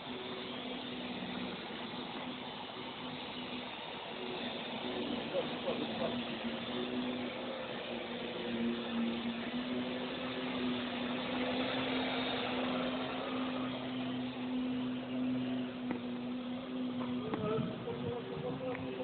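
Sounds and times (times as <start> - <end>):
drone rotors buzzing: 0.0 - 19.0.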